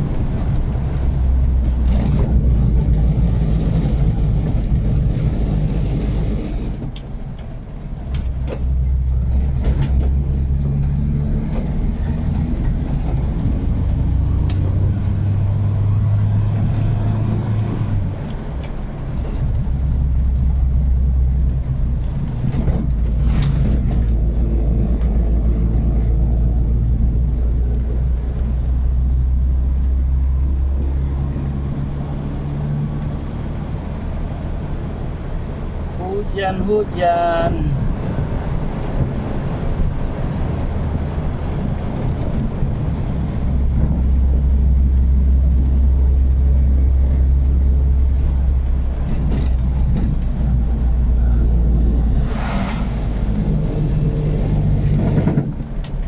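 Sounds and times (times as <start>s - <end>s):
car engine droning: 0.0s - 36.3s, 37.6s - 56.0s.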